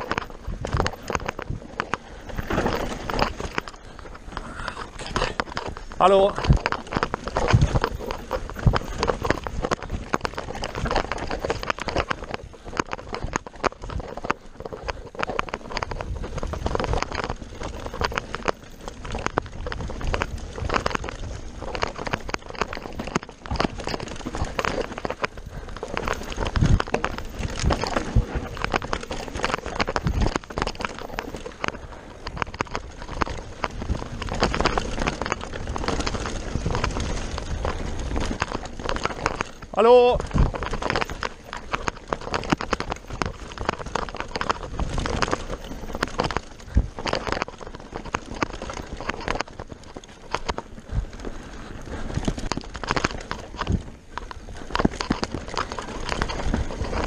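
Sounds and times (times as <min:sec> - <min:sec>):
bike rattling over bumps: 0:00.0 - 0:57.0
tyres crunching over dirt: 0:00.0 - 0:57.0.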